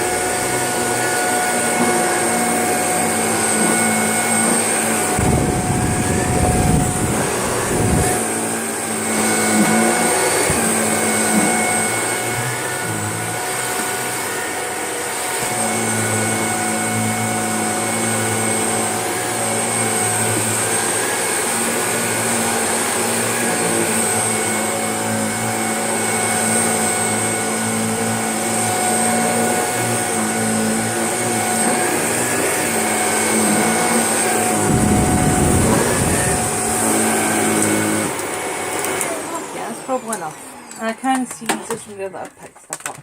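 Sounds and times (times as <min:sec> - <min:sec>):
vacuum cleaner running on carpet: 0:00.0 - 0:42.3.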